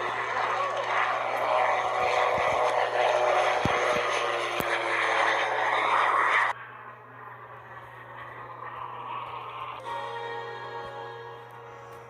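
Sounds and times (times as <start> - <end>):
motorcycle jet-like roar: 0.0 - 9.9.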